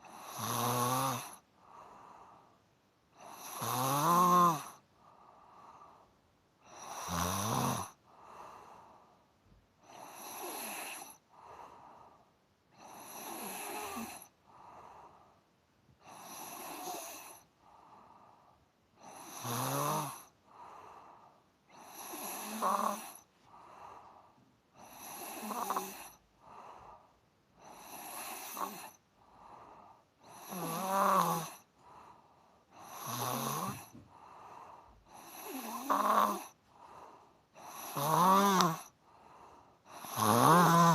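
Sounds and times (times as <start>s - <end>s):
person snoring: 0.0s - 2.4s, 3.2s - 4.8s, 6.6s - 9.0s, 9.8s - 12.1s, 12.8s - 15.1s, 16.0s - 18.2s, 19.0s - 24.1s, 24.8s - 27.0s, 27.6s - 40.9s
soft breath: 1.3s - 3.4s, 4.8s - 6.8s, 7.9s - 19.3s, 20.2s - 40.9s.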